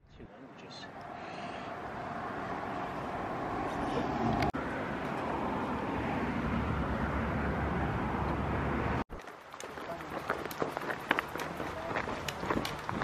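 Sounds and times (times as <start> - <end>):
road traffic rushing: 0.2 - 13.0.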